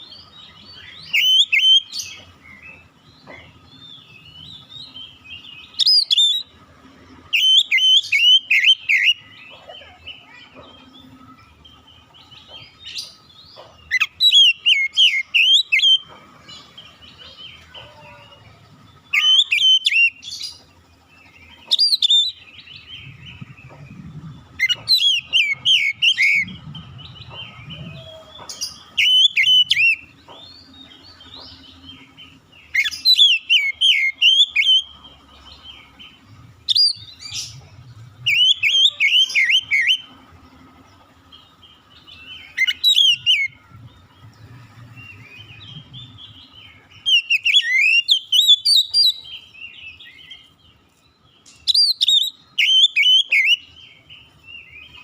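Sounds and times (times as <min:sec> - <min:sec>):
songbird whistling and warbling: 0:00.0 - 0:06.5, 0:07.3 - 0:11.2, 0:12.3 - 0:16.2, 0:19.0 - 0:20.6, 0:21.4 - 0:40.2, 0:41.8 - 0:43.9, 0:45.0 - 0:50.5, 0:51.6 - 0:53.8.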